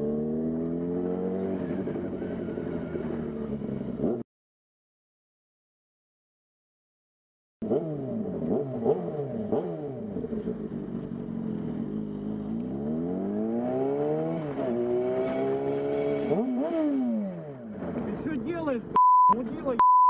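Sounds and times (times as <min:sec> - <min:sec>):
car engine accelerating: 0:00.0 - 0:04.2, 0:07.6 - 0:19.8.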